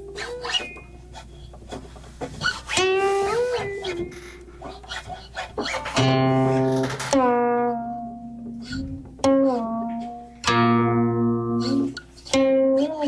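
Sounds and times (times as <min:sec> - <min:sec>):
harmonica bent notes: 0:00.0 - 0:01.4, 0:02.4 - 0:13.0.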